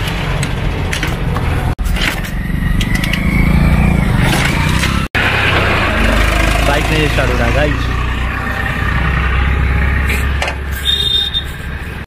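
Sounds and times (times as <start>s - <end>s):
motor vehicle engine running: 0.0s - 12.0s.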